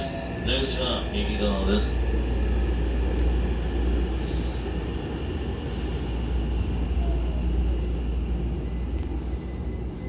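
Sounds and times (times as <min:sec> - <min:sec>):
train rumbling inside car: 0:00.0 - 0:10.0.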